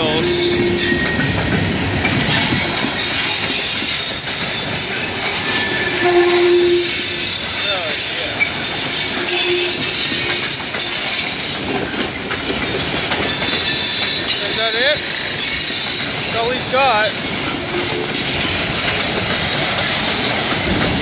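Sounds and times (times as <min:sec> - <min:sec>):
freight train wheels rumbling: 0:00.0 - 0:21.0
train wheel squeals: 0:00.0 - 0:21.0.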